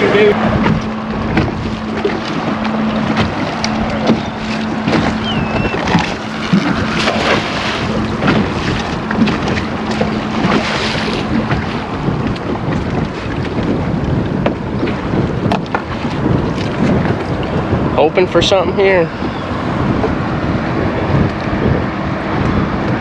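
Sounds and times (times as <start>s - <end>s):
water splashing and sloshing: 0.0s - 23.0s
wind buffeting microphone: 0.0s - 23.0s.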